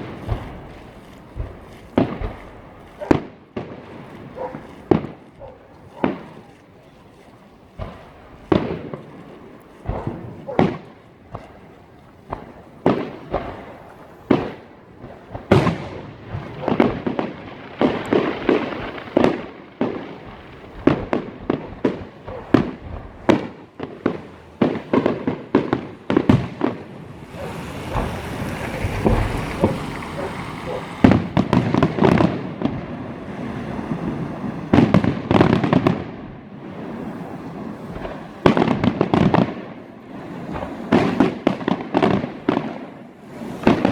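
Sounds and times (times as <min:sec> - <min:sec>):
crackling fireworks: 0:00.0 - 0:43.9
fireworks banging: 0:00.0 - 0:43.9.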